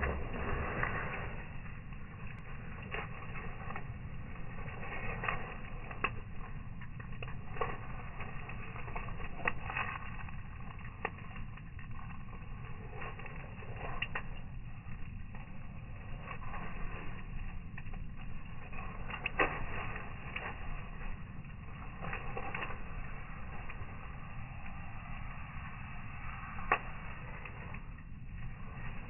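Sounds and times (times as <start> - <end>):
low rumble: 0.0 - 29.0
wood fire crackling and popping: 0.0 - 29.0.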